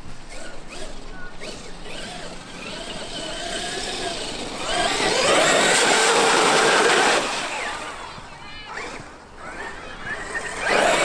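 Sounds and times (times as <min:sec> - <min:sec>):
toy truck electric motor whining: 0:00.2 - 0:11.0.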